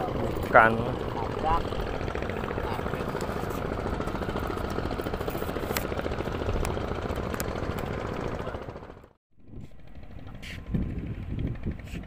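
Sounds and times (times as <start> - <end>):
engine pulsing rumble: 0.0 - 12.0.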